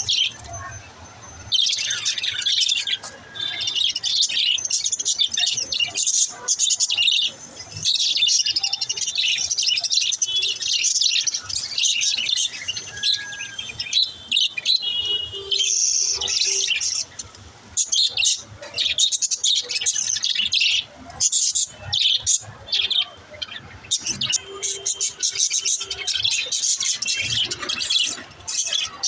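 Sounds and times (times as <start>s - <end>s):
budgerigars chirping and chattering: 0.0s - 29.0s.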